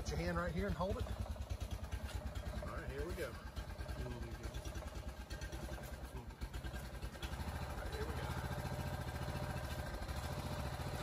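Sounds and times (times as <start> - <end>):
hydraulic pump engine rumbling: 0.0 - 11.0.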